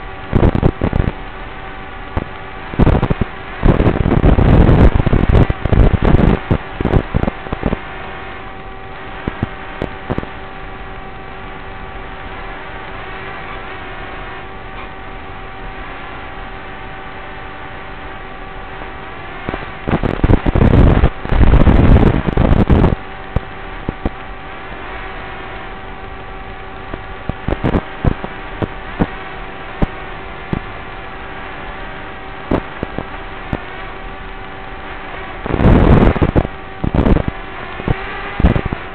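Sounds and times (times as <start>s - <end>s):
crackles: 0.0s - 38.9s
electrical hum and hiss: 0.0s - 38.9s
rough static bursts: 0.0s - 38.9s
flat electronic tones: 2.0s - 38.9s.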